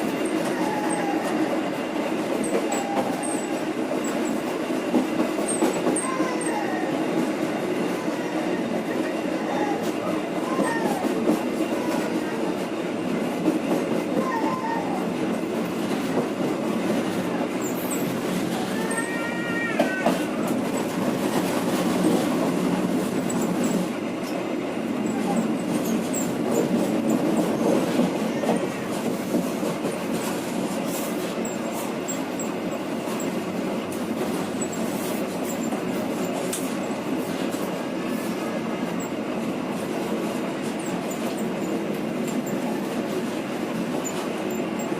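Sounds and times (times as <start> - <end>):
rail joints clicking: 0.0 - 44.9
train wheels rumbling on rail: 0.0 - 44.9.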